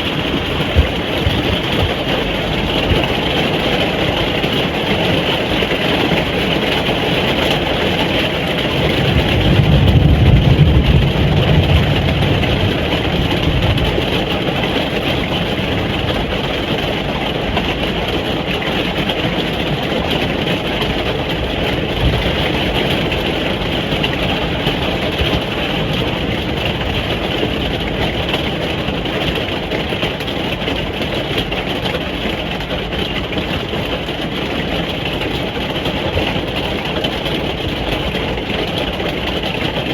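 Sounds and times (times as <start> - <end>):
rain on a caravan roof: 0.0 - 39.9.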